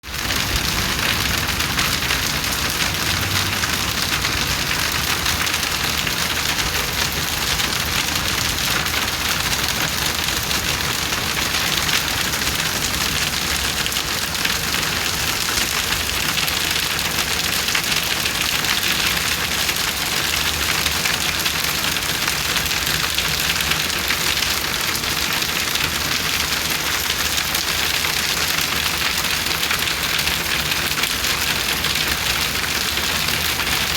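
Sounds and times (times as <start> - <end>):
heavy rain splashing on hard surfaces: 0.0 - 33.9.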